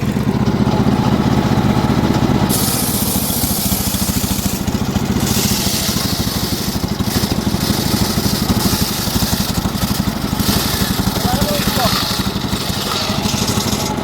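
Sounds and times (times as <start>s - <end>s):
sawmill engine pulsing: 0.0s - 14.0s.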